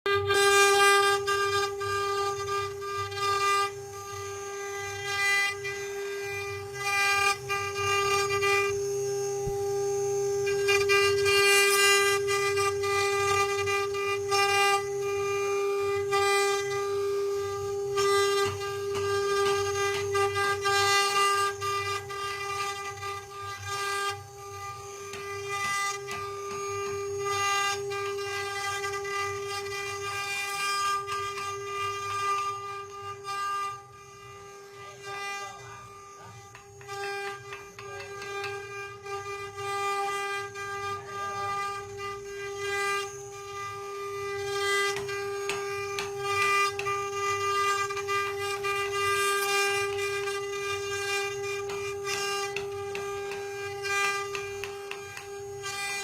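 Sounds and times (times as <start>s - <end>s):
rasping cutting noise: 0.1s - 56.0s
router spindle whining: 0.1s - 56.0s.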